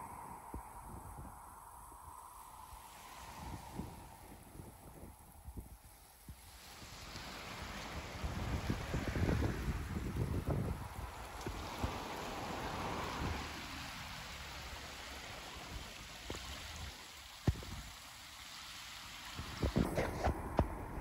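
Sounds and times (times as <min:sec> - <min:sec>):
wind buffeting microphone: 0:00.0 - 0:14.2, 0:15.7 - 0:18.0, 0:19.2 - 0:21.0
floodwater rushing: 0:00.0 - 0:21.0.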